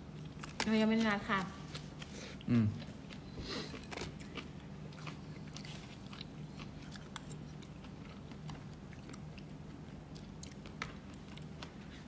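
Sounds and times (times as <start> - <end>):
person chewing food: 0.0 - 0.7, 1.6 - 12.0
faint low hum: 0.0 - 12.0.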